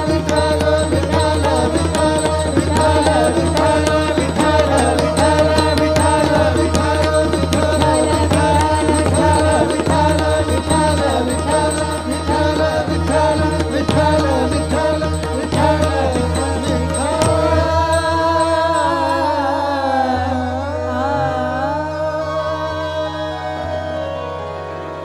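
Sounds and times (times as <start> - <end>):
tabla strokes: 0.0 - 20.5
man singing classical vocals: 0.0 - 23.8.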